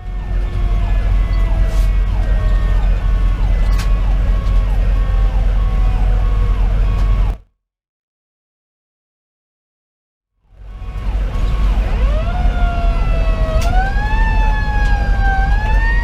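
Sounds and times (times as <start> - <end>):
diesel engine rumble: 0.0 - 7.4, 10.5 - 16.0
fire engine sirens: 0.0 - 7.4, 10.5 - 16.0.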